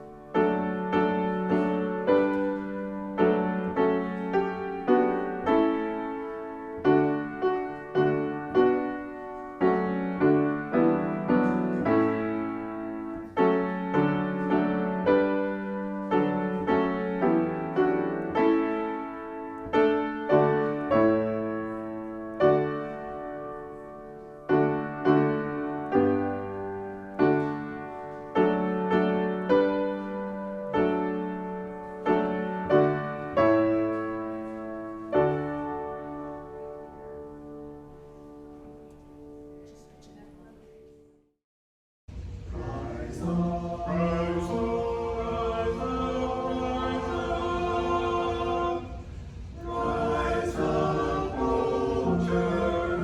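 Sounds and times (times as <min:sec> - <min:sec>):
slow piano piece: 0:00.0 - 0:41.4, 0:42.1 - 0:53.0.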